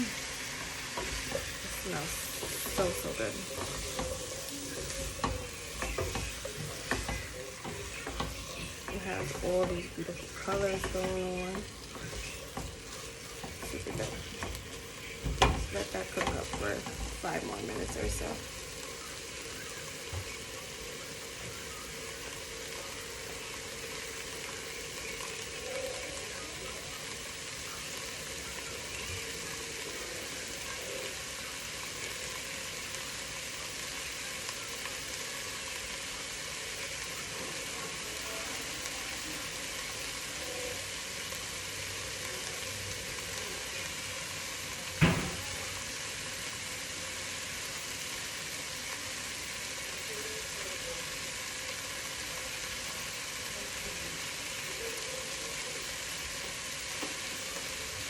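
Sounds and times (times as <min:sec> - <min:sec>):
soup simmering and sizzling: 0:00.0 - 0:58.0.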